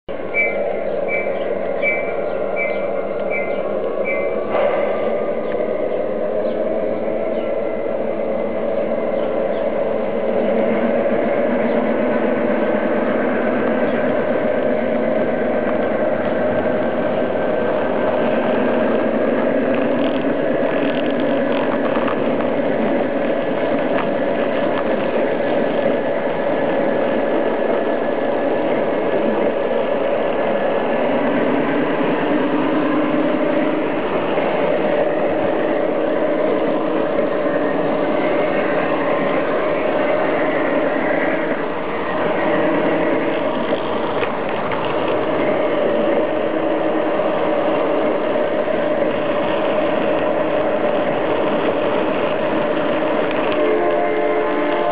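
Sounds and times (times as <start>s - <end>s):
model train running on track: 0.0s - 54.9s.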